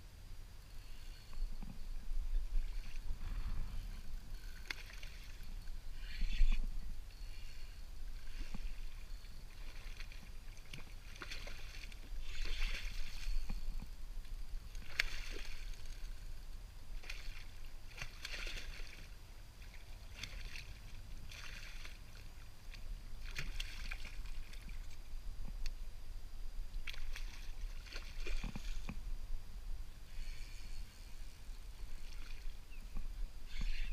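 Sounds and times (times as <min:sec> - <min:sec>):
steady low rumble: 0:00.0 - 0:18.2, 0:19.1 - 0:33.5.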